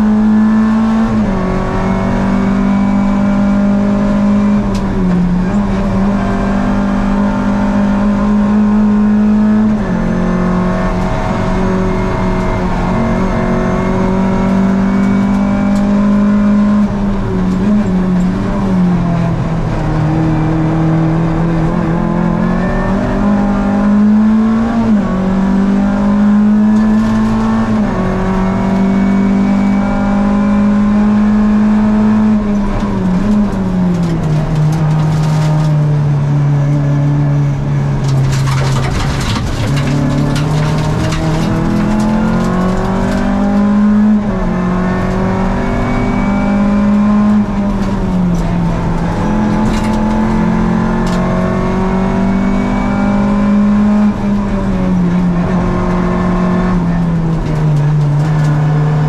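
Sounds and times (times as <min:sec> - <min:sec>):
car engine under load: 0:00.0 - 0:59.0.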